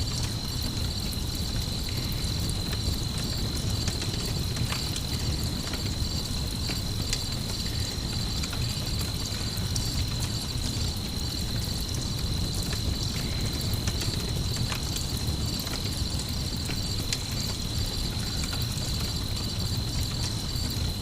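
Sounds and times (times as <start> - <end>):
campfire crackling: 0.0 - 21.0
crickets chirping: 0.0 - 21.0.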